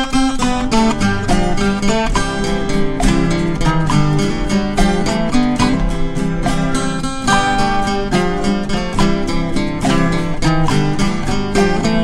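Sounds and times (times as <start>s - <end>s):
acoustic guitar plucking and strumming: 0.0s - 12.0s
bass line: 0.6s - 12.0s.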